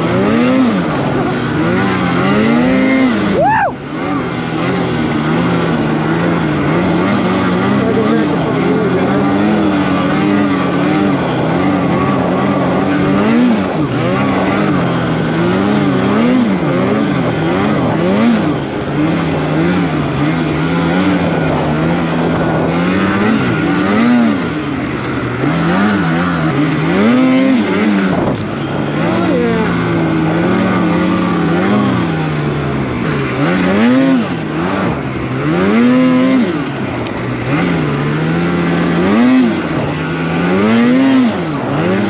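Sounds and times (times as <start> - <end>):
snowmobile engine revving: 0.0 - 42.0.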